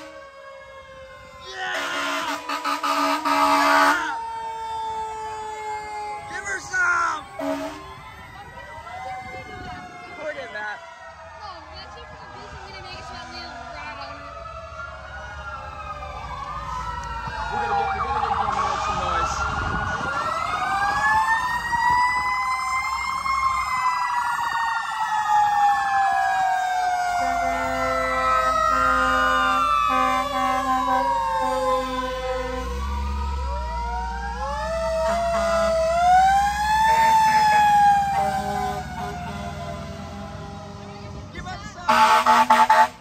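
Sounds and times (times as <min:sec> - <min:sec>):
fire truck sirens wailing: 0:00.0 - 0:43.0
truck engines rumbling: 0:00.0 - 0:43.0.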